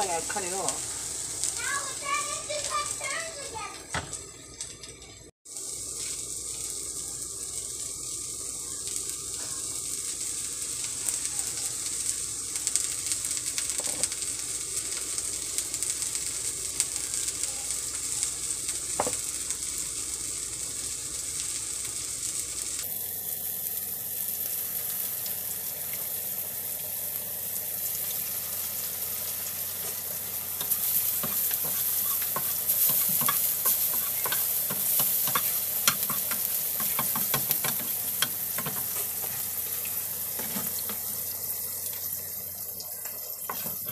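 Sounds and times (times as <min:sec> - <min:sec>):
food sizzling in hot oil: 0:00.0 - 0:43.9.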